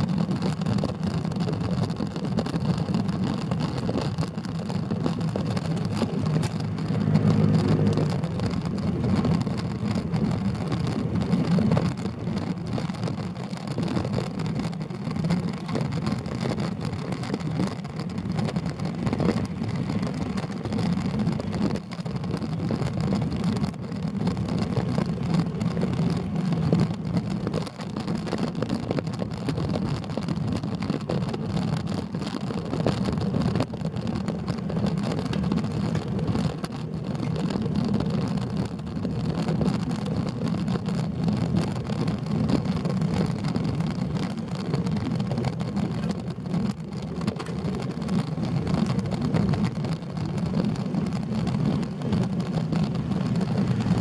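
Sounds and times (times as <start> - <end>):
bike tyres on asphalt: 0.0 - 54.0.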